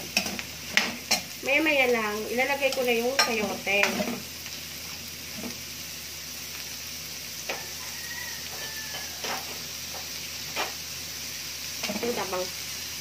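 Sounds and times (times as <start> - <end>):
food sizzling in wok: 0.0 - 13.0.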